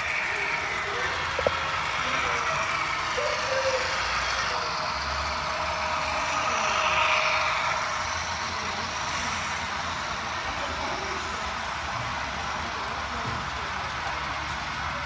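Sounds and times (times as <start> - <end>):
diesel engine sound through small speaker: 0.0 - 15.0.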